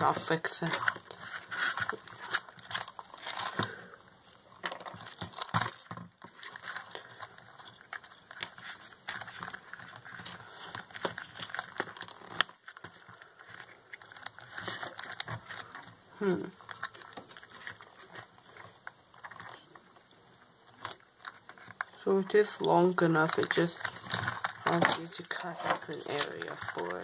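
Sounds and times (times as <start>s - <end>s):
small parts clicking and rustling: 0.0s - 27.0s.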